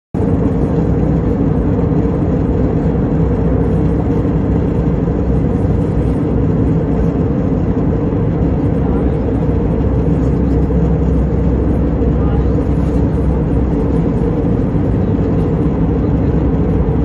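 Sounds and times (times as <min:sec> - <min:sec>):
jet engine cabin drone: 0:00.2 - 0:17.0.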